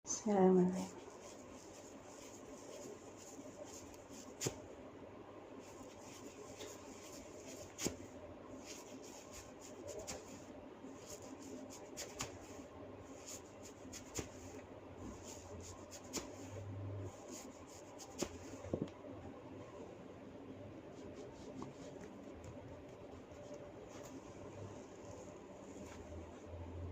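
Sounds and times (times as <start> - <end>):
hands rubbing through hair: 0.7 - 4.6, 5.6 - 18.7, 20.9 - 26.4.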